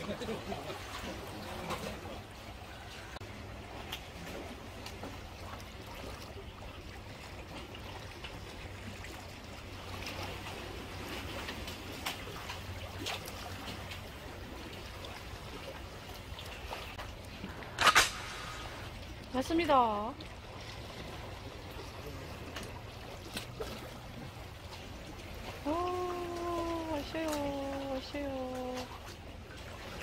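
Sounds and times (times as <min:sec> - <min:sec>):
low steady rumble: 0:00.0 - 0:30.0
sea water lapping against rocks: 0:00.0 - 0:30.0
small water splashes: 0:00.0 - 0:30.0.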